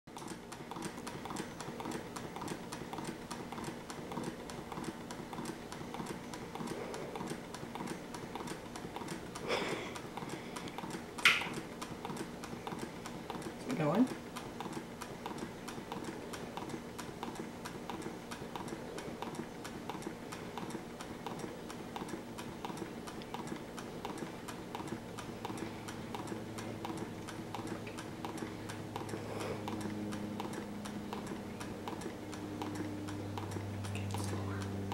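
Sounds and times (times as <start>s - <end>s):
low steady hum: 0.2s - 34.9s
small engine rapid ticking: 0.2s - 34.9s.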